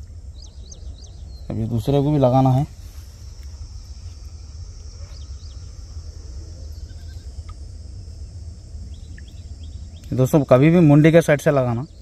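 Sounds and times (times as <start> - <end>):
faint bird chirps: 0.0 - 12.0
high insect drone: 0.0 - 12.0.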